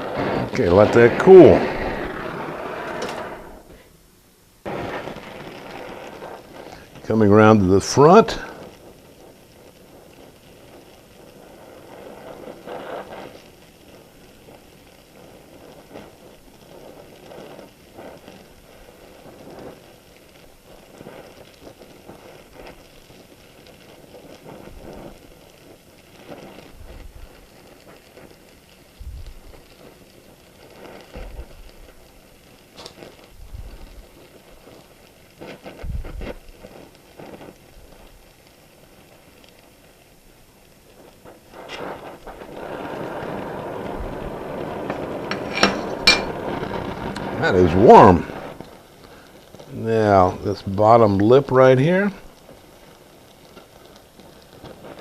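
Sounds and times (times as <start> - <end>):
welding torch flame hissing: 0.0 - 55.0.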